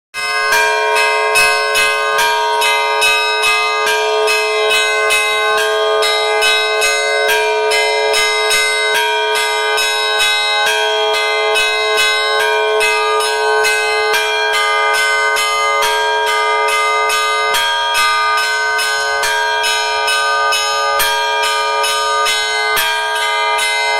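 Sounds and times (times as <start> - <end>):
deep bell ringing: 0.2 - 23.9
small church bells striking: 0.2 - 23.9.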